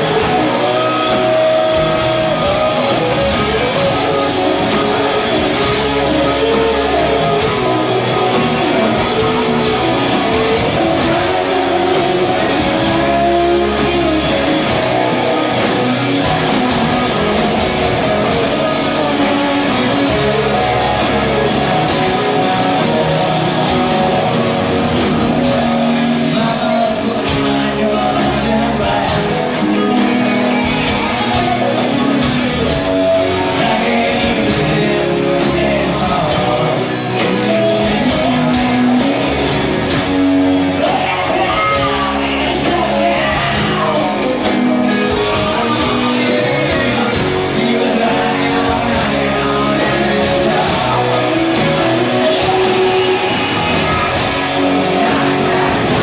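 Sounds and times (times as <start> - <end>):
person singing: 0.0 - 56.0
rock music with guitars: 0.0 - 56.0.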